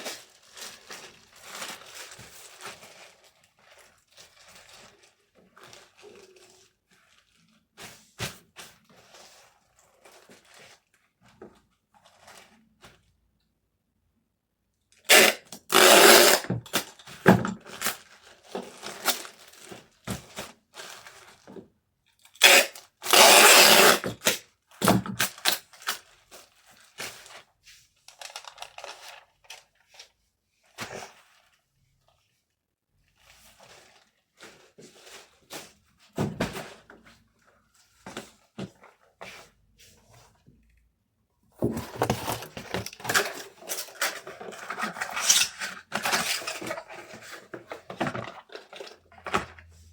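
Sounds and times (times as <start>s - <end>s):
packaging rustling and crinkling: 0.0s - 13.1s, 15.7s - 22.3s, 23.1s - 32.3s, 33.0s - 40.4s, 41.6s - 49.9s.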